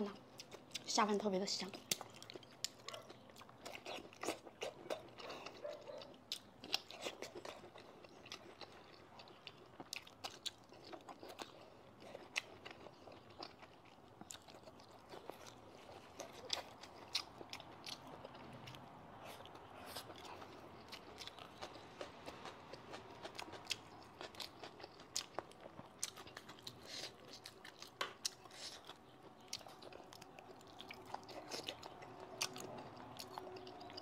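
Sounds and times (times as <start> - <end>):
chewing crisp crunches: 1.5 - 34.0.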